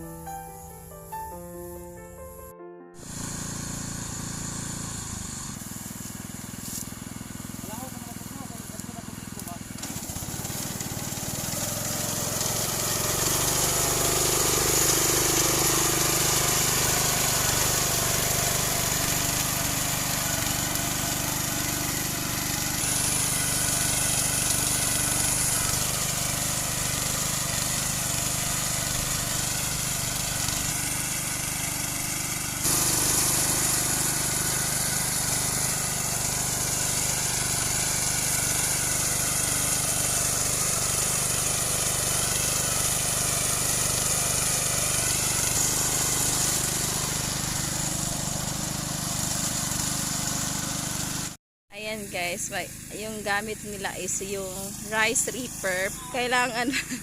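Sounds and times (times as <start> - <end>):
small reaper engine running: 3.0 - 57.0.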